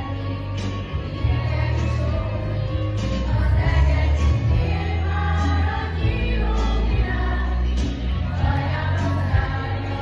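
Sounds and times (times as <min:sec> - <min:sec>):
children's choir singing: 0:00.0 - 0:10.0
steady bass: 0:00.0 - 0:10.0.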